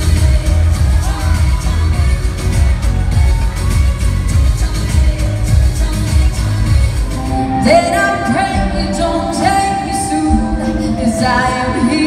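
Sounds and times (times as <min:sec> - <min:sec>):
dance track with heavy beat: 0:00.0 - 0:12.0
woman singing with live band: 0:00.0 - 0:12.0.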